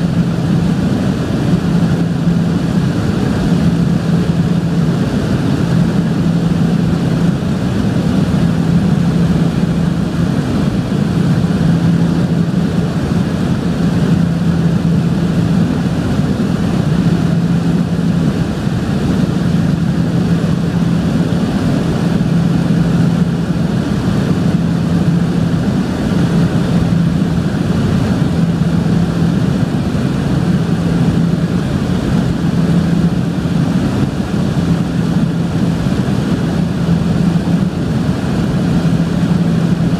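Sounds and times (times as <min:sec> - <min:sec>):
aircraft cabin propeller drone: 0:00.0 - 0:39.9.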